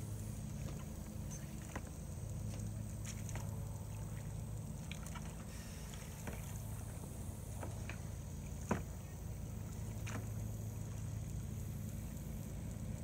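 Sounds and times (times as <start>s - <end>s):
low steady hum: 0.0s - 13.0s
paddle splashes and drips: 0.4s - 13.0s.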